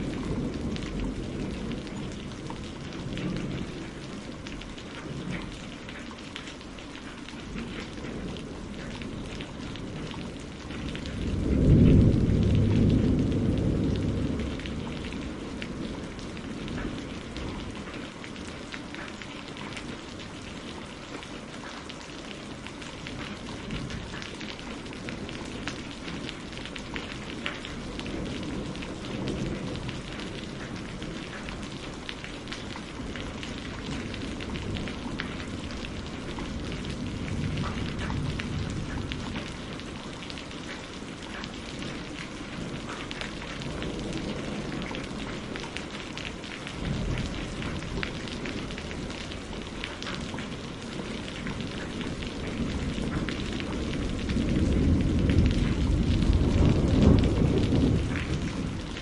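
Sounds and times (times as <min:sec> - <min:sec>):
rain pattering on a roof: 0:00.0 - 0:59.0
thunder rumbling: 0:00.0 - 0:59.0.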